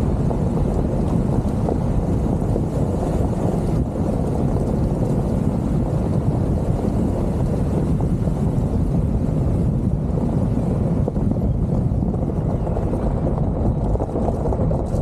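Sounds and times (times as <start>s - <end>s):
car driving on gravel: 0.0s - 15.0s
wind buffeting microphone: 0.0s - 15.0s.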